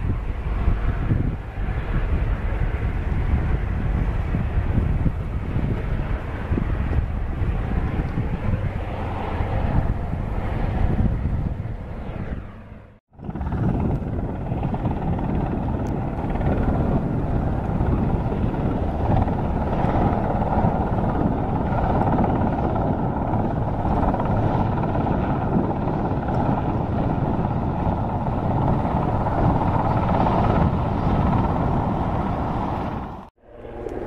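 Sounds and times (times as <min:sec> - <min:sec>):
helicopter flying low: 0:00.0 - 0:34.0.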